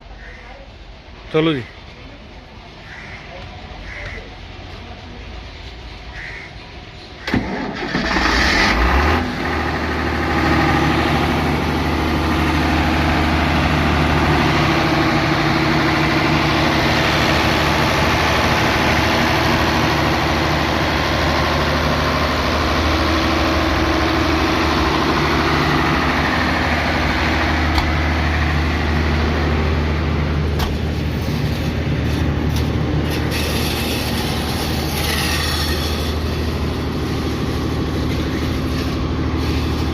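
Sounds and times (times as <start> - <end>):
diesel generator engine starting: 7.0 - 39.9.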